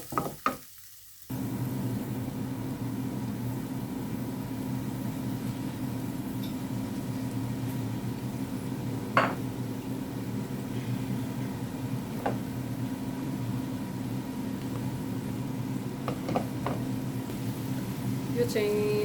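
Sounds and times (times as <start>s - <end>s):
steady low hum: 1.3s - 19.0s.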